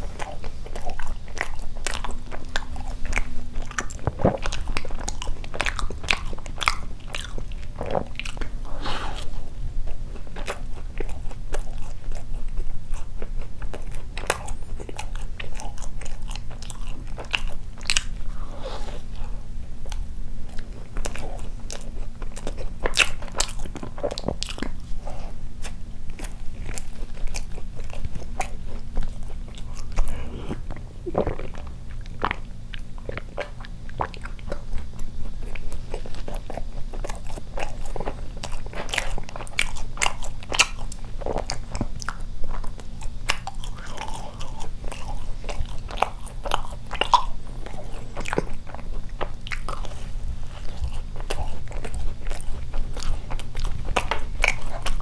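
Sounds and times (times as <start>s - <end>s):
steady low hum: 0.0s - 55.0s
wet chewing with mouth clicks: 0.0s - 55.0s.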